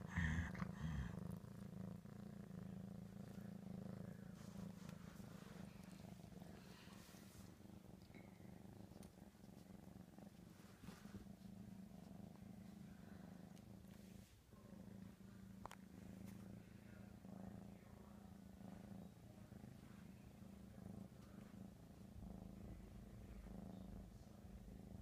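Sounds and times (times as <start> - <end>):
kitten purring: 0.0 - 25.0.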